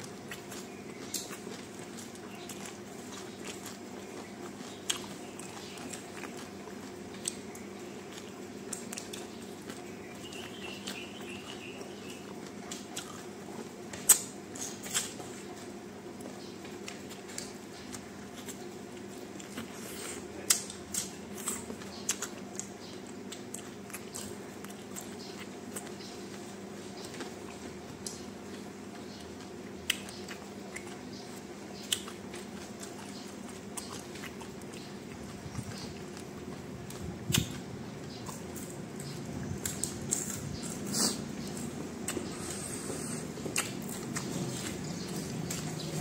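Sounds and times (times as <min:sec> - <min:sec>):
person chewing food: 0:00.0 - 0:46.0
steady low hum: 0:00.0 - 0:46.0.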